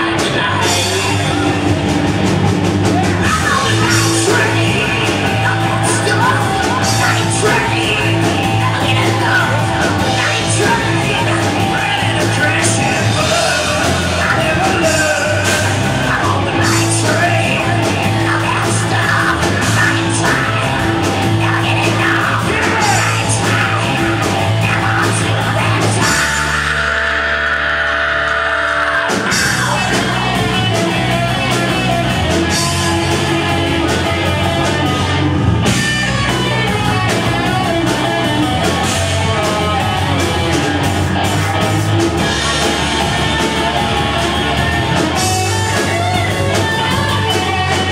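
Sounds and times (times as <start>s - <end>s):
bass guitar: 0.0s - 47.9s
distorted electric guitars: 0.0s - 47.9s
drums: 0.0s - 47.9s
man singing and shouting: 0.0s - 47.9s.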